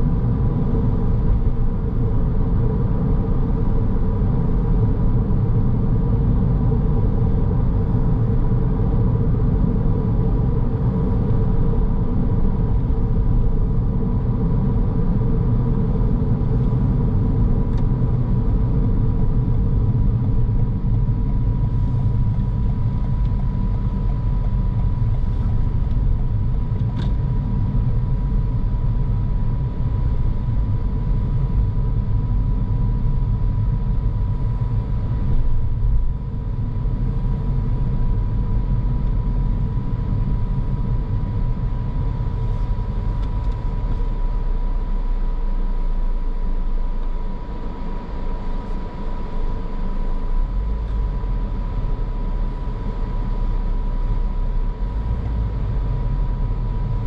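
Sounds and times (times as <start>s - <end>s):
car tyres and engine rumbling: 0.0s - 57.0s.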